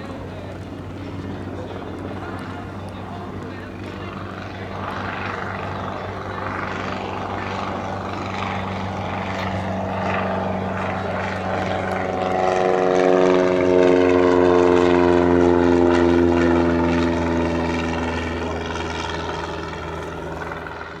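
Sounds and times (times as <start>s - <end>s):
propeller plane engine passing: 0.0s - 21.0s.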